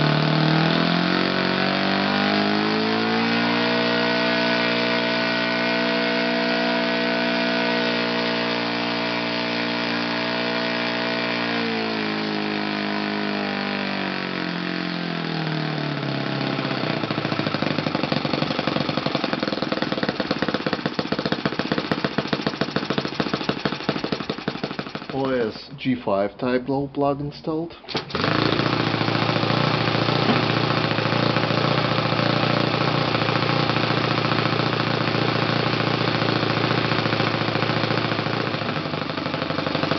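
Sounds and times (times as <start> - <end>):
model engine revving and idling: 0.0 - 26.6, 27.8 - 39.9.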